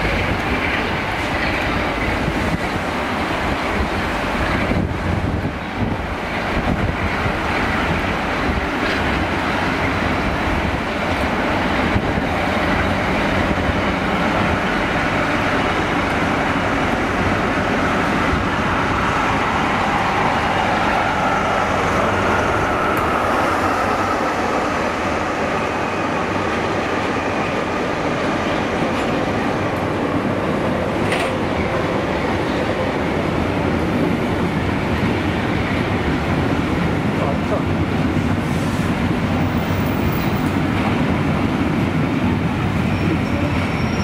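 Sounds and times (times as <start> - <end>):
diesel locomotive engine rumble: 0.0 - 44.0.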